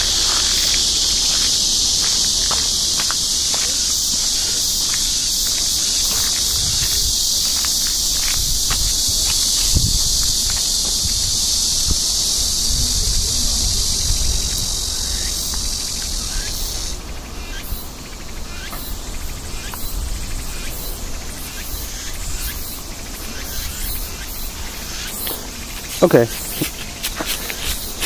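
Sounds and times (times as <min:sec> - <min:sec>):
high-pitched insect drone: 0:00.0 - 0:28.0
pulsing insect chirps: 0:00.0 - 0:28.0.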